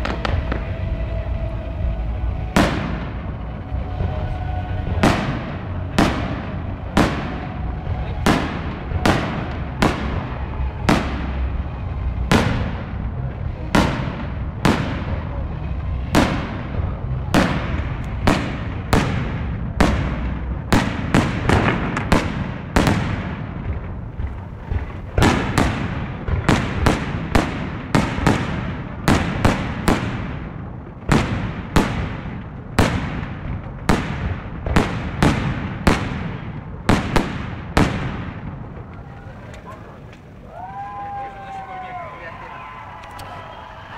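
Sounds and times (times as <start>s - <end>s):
firework bangs echoing: 0.0s - 43.9s
low rumble: 0.0s - 43.9s.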